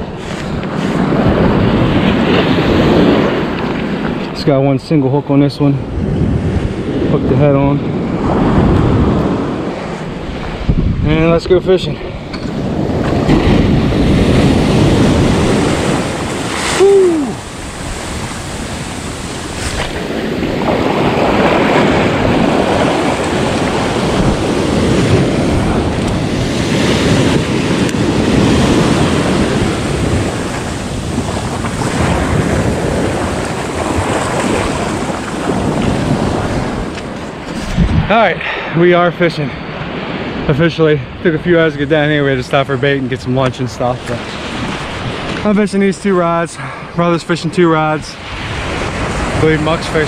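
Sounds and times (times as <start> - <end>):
ocean surf breaking: 0.0 - 50.0
wind buffeting microphone: 0.0 - 50.0.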